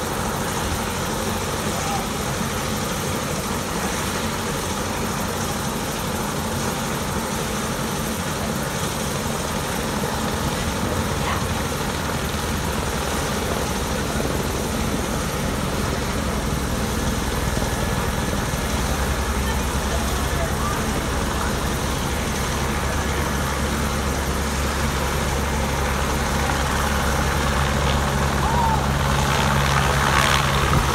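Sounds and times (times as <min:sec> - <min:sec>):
helicopter turbine and rotor: 0:00.0 - 0:30.9.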